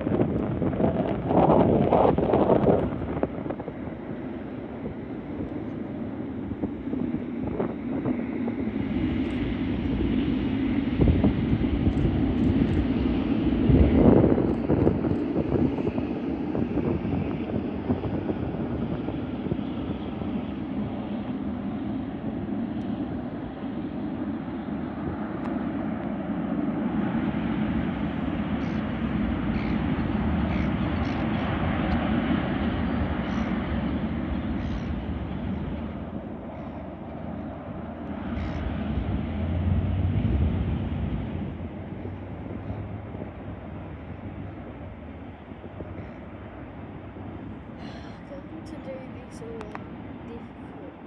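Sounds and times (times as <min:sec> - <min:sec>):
jet engine rumble: 0:00.0 - 0:51.0
wind buffeting microphone: 0:00.0 - 0:51.0.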